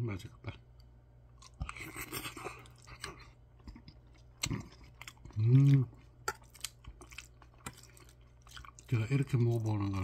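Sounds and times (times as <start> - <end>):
close-up chewing: 1.4 - 10.0.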